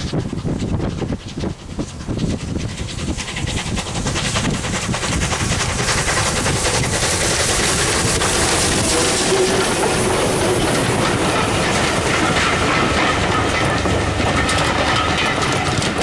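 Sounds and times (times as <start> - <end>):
steam locomotive exhaust beats: 0.0 - 16.0.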